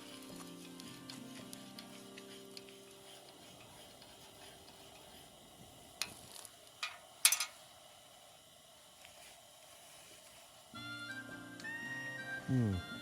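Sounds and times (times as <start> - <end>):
campfire crackling: 0.0 - 10.9.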